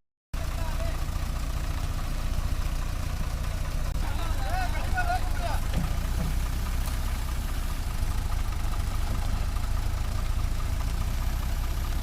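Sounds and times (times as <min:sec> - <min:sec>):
diesel engine idling: 0:00.4 - 0:12.0.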